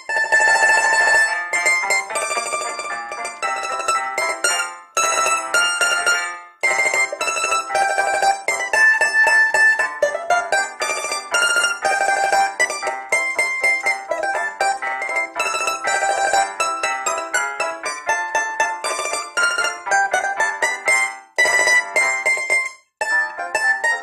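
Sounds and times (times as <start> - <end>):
plucked string instrument melody: 0.0 - 24.0.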